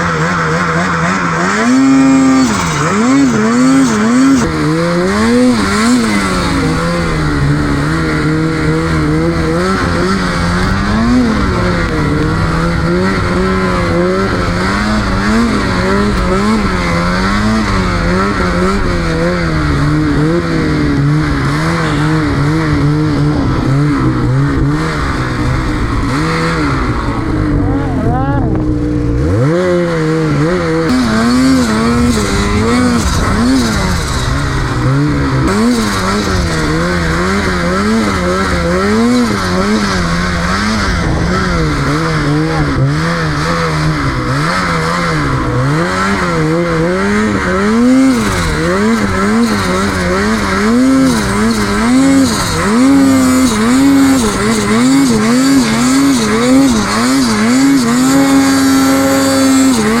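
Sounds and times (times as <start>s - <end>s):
snowmobile engine revving: 0.0s - 60.0s.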